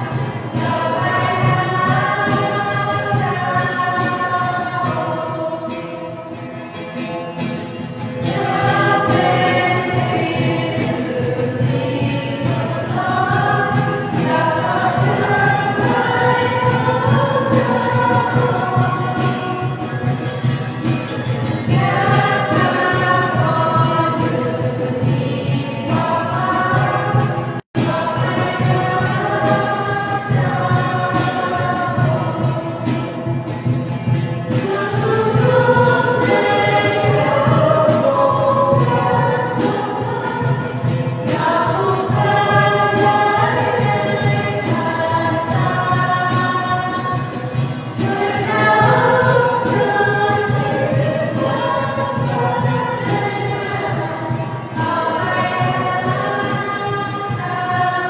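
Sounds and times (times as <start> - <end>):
choir singing a hymn: 0.0 - 6.8, 7.4 - 58.0.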